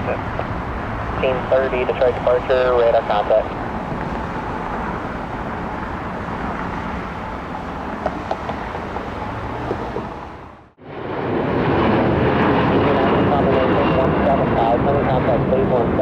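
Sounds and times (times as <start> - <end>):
jet engine of departing airliner: 0.0 - 16.0.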